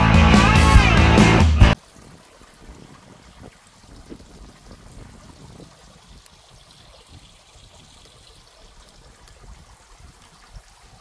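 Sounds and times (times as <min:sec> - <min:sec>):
stream trickling over rocks: 0:01.7 - 0:11.0.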